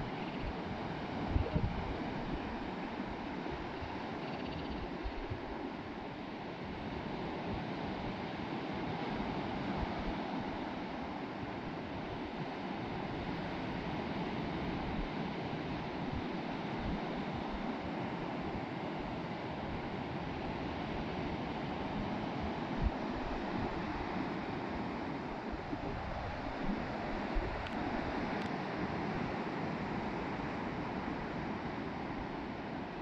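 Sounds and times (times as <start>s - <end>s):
waves washing up a beach: 0.0s - 4.2s, 4.8s - 33.0s
wind rumbling on microphone: 0.0s - 6.0s, 6.6s - 33.0s.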